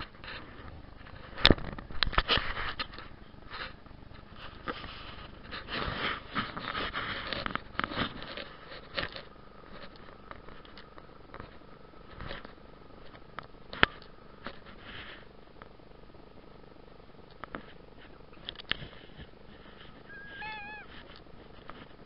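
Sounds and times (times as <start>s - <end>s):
rustling and scraping on microphone: 0.0s - 15.8s, 17.4s - 22.0s.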